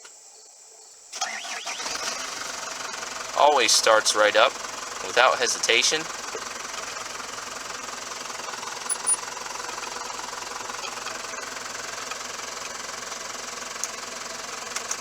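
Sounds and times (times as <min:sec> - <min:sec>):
diesel engine idling: 0:01.2 - 0:15.0.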